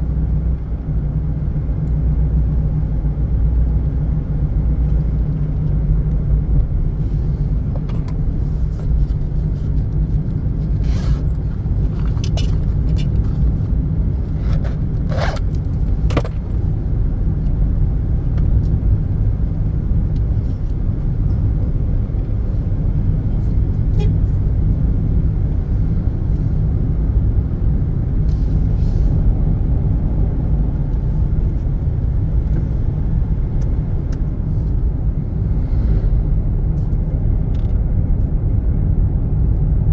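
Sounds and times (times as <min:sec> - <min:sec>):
road vehicle rumble: 0:00.0 - 0:39.9.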